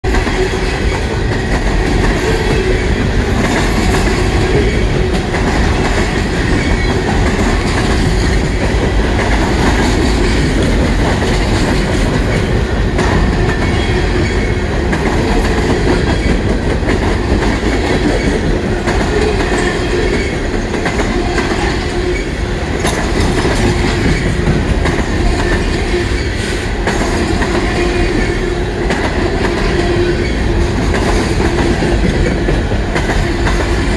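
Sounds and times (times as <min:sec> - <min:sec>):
freight train rumble: 0:00.0 - 0:33.9.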